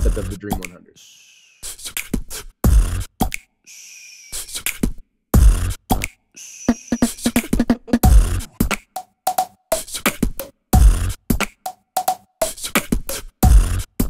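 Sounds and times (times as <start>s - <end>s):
beatbox-style beat: 0.0s - 14.0s.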